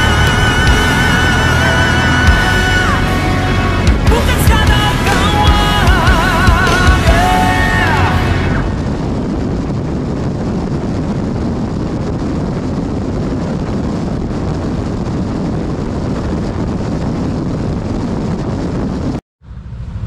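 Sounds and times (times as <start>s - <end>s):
scooter engine and tyre noise: 0.0s - 17.3s, 19.4s - 20.0s
wind rush over microphone: 0.0s - 20.0s.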